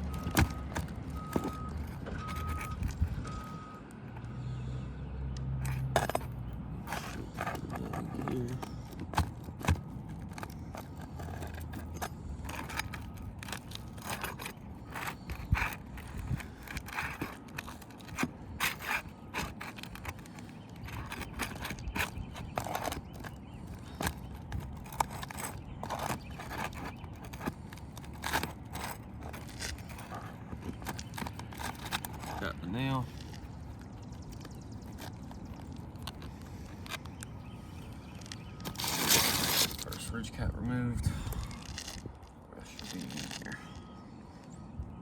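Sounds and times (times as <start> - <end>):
tool scraping shingle: 0.0 - 4.4, 5.6 - 43.7.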